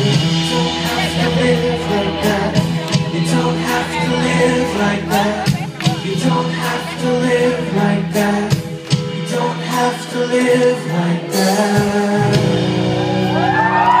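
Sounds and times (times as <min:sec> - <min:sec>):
man singing: 0:00.0 - 0:13.1
live rock band playing: 0:00.0 - 0:14.0.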